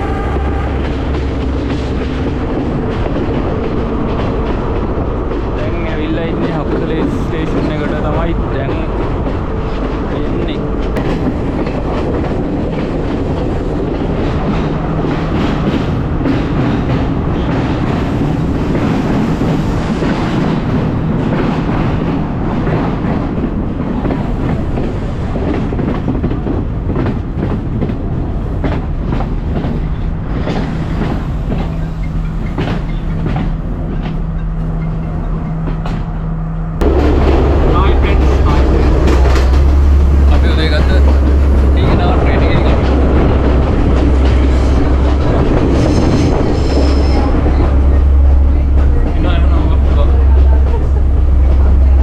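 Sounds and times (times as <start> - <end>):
train rumbling: 0.0 - 52.0
train wheels clicking over rail joints: 0.0 - 52.0.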